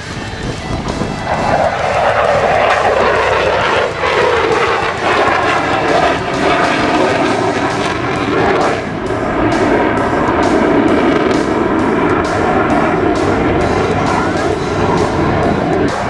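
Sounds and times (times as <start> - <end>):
jet flying past: 0.0 - 16.0.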